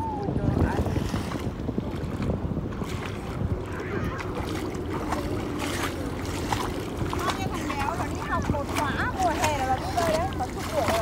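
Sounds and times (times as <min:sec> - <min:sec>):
lapping river water: 0:00.0 - 0:11.0
wind rumbling on microphone: 0:00.0 - 0:11.0.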